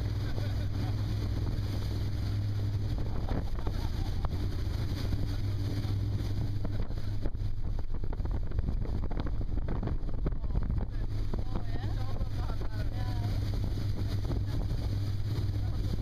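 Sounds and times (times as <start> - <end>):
motorboat engine drone: 0.0 - 16.0
water rushing past hull: 0.0 - 16.0
wind buffeting microphone: 0.0 - 16.0.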